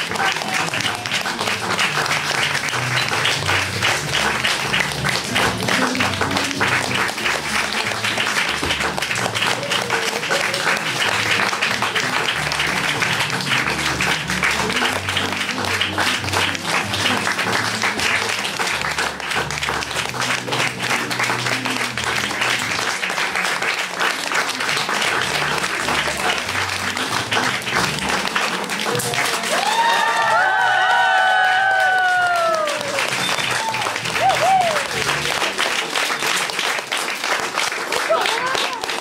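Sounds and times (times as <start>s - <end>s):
audience applauding: 0.0s - 39.0s.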